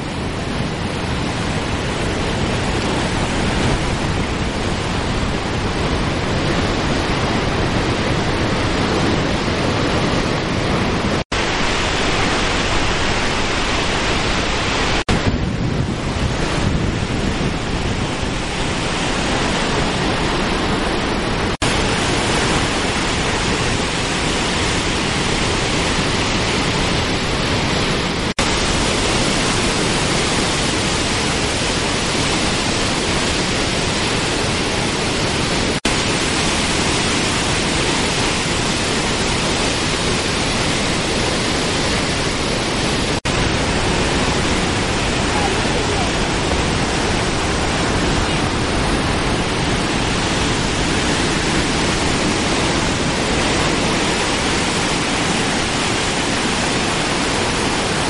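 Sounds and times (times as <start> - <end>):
waterfall rushing over boulders: 0.0 - 58.0.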